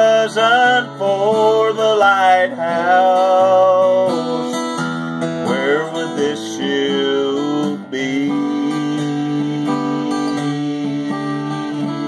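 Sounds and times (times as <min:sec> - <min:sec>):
man singing gospel song: 0:00.0 - 0:04.7, 0:05.4 - 0:12.0
strummed acoustic guitar: 0:00.0 - 0:12.0.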